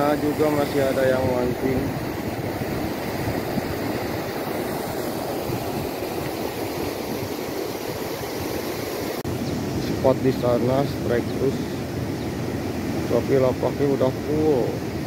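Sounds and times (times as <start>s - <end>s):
river water rushing over weir: 0.0s - 15.0s.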